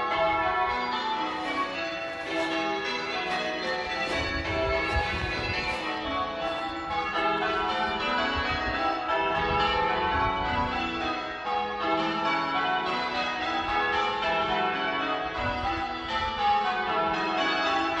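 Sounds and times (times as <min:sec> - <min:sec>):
church bells ringing: 0:00.0 - 0:18.0.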